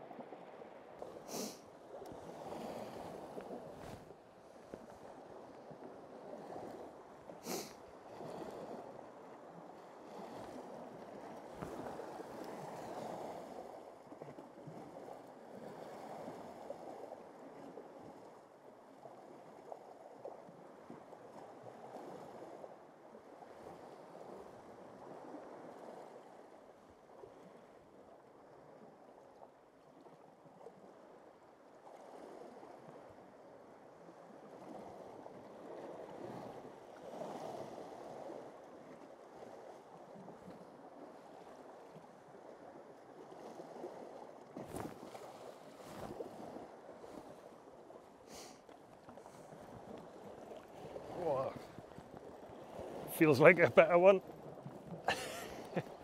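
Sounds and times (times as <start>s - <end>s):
muffled sea swell over rocks: 0.0s - 56.0s.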